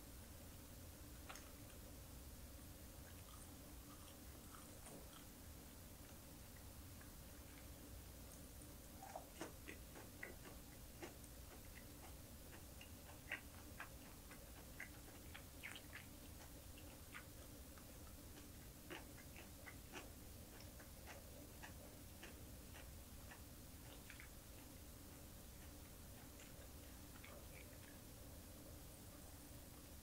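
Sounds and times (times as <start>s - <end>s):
person chewing crunchy food: 3.0s - 28.4s.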